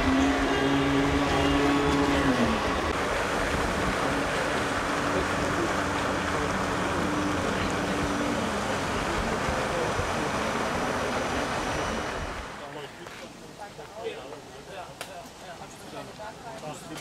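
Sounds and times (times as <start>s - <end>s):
outdoor hiss by water: 0.0s - 17.0s.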